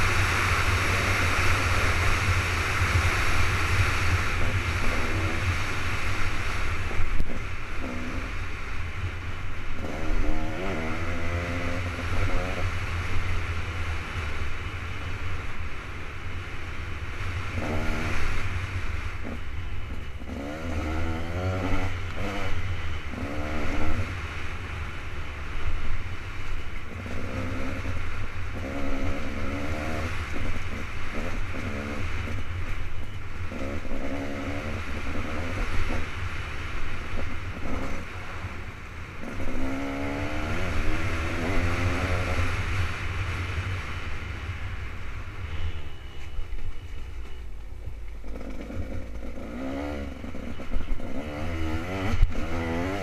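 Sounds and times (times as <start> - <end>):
two-stroke dirt bike engine: 0.0 - 53.0.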